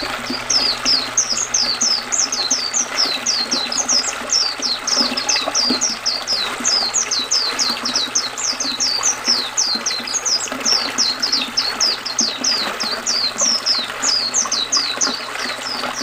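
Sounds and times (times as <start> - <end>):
bird singing high chirps: 0.0 - 16.0
flowing river water: 0.0 - 16.0.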